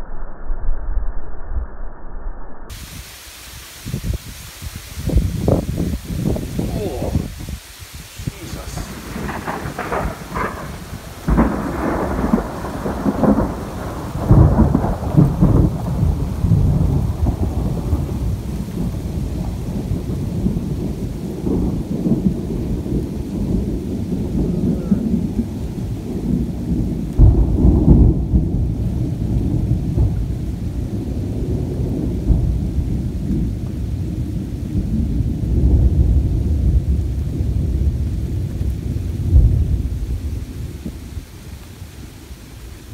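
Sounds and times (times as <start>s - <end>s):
thunder rumbling: 2.7s - 42.9s.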